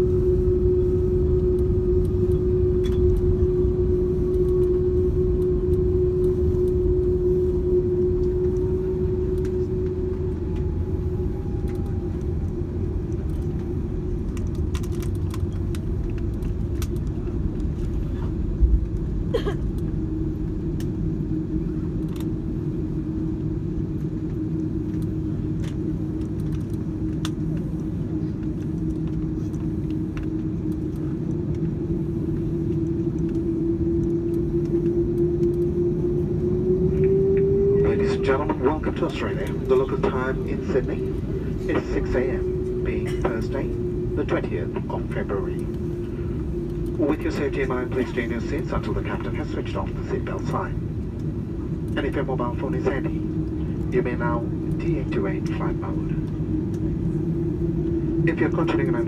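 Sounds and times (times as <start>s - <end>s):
jet engines whining: 0.0s - 59.0s
low rumble of airframe rolling: 0.0s - 59.0s.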